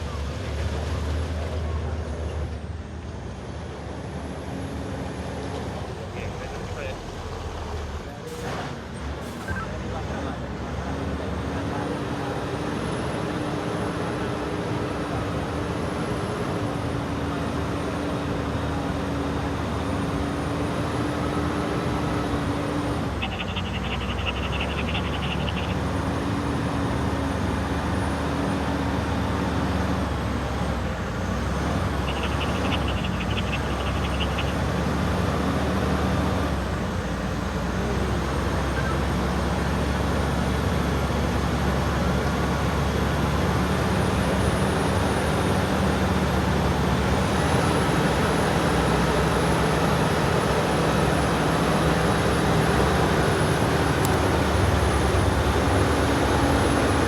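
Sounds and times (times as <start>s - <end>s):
truck diesel engine straining: 0.0s - 57.0s.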